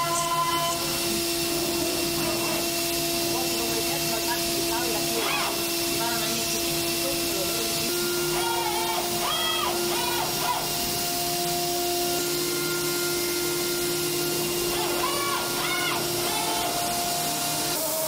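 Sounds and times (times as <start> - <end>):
cutting hiss: 0.0 - 18.0
short rising and falling whines: 0.0 - 18.0
milling spindle tone: 0.4 - 17.8.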